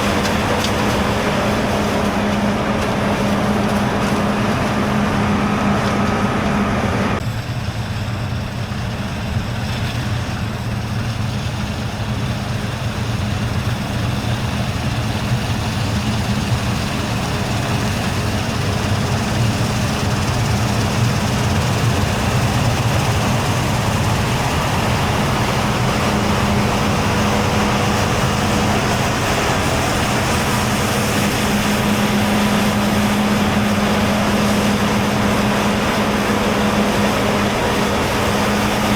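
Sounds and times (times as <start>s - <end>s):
constant low hum: 0.0s - 38.9s
diesel engine drone: 0.0s - 38.9s.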